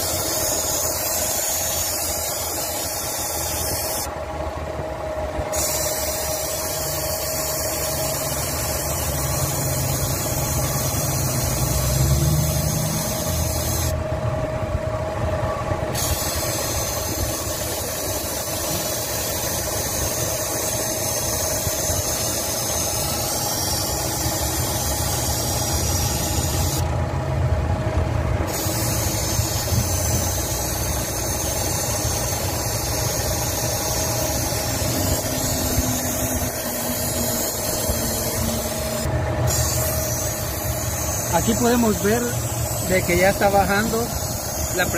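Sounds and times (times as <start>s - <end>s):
refrigerant hissing from hose: 0.0s - 4.1s, 5.5s - 14.0s, 16.0s - 26.9s, 28.5s - 44.9s.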